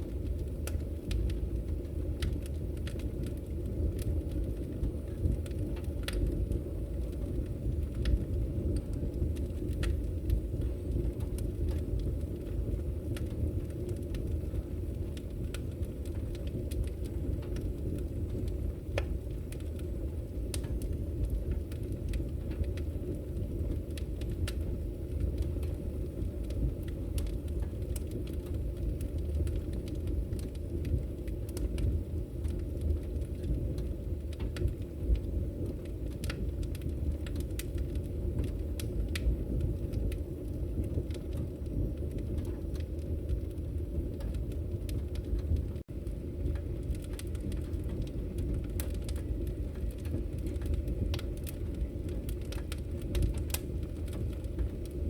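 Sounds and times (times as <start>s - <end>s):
fire flames rumbling: 0.0s - 55.0s
firewood crackling and popping: 0.0s - 55.0s.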